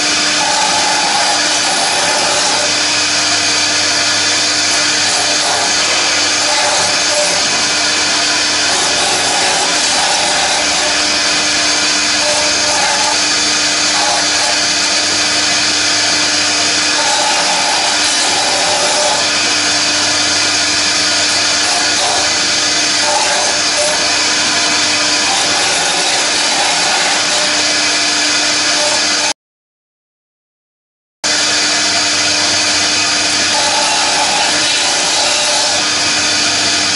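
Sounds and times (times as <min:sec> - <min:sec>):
router spindle cutting foam: 0:00.0 - 0:29.4, 0:31.3 - 0:36.9.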